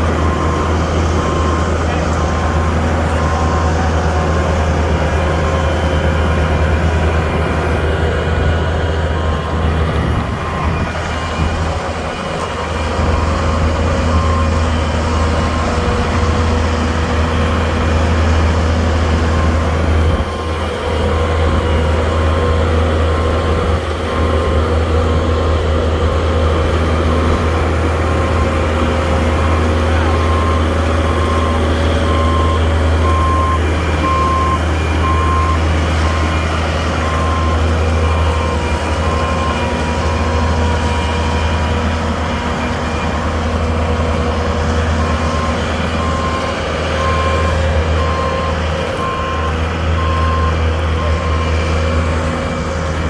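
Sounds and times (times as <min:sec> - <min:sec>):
backup alarm beeping: 0:00.0 - 0:23.4, 0:24.0 - 0:43.0, 0:44.2 - 0:51.6
diesel engine running: 0:00.0 - 0:53.0.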